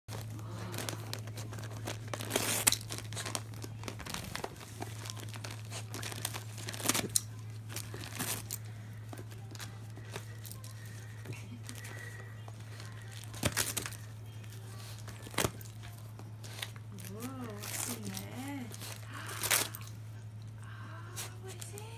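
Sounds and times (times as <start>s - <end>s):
dog tearing wrapping paper: 0.1s - 20.1s, 21.1s - 21.9s
low hum: 0.1s - 21.9s.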